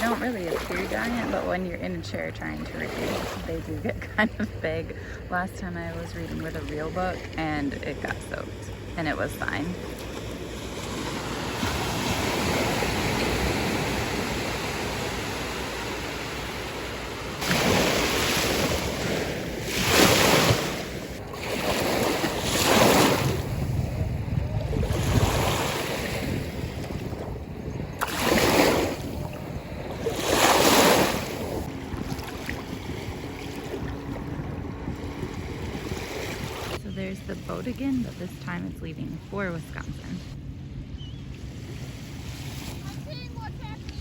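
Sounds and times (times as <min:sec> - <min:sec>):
waves breaking on beach: 0:00.0 - 0:40.4, 0:41.4 - 0:44.0
wind rumble on microphone: 0:00.0 - 0:44.0.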